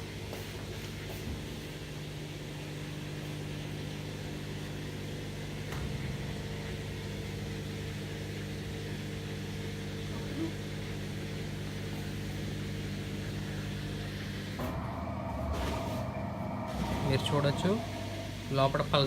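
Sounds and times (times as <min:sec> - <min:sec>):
washing machine drain pump humming: 0:00.0 - 0:19.0.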